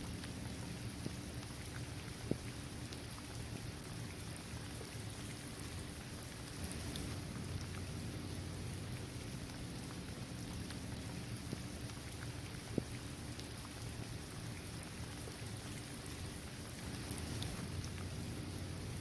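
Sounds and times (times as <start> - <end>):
rain falling on pavement: 0.0 - 19.0
raindrop ticks: 0.0 - 19.0.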